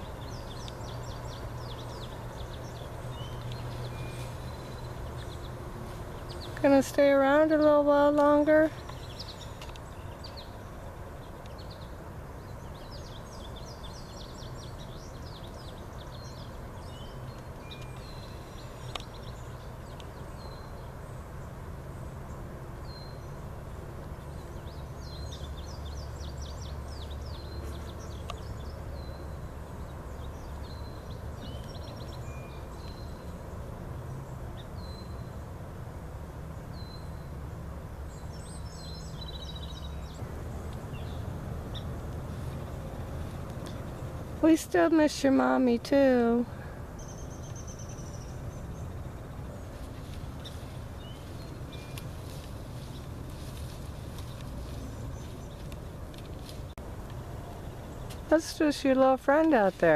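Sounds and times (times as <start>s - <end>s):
small birds chirping: 0.0s - 35.6s, 36.2s - 59.9s.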